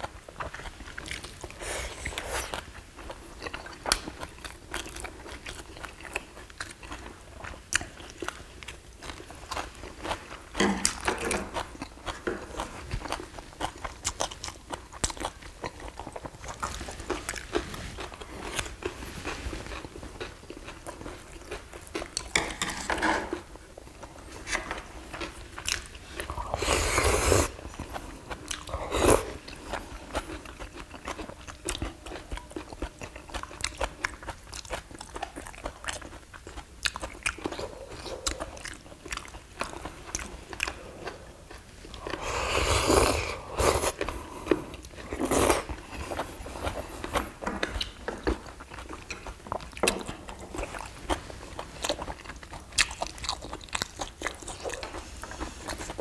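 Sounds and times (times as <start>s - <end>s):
people chewing and crunching: 0.0s - 56.0s.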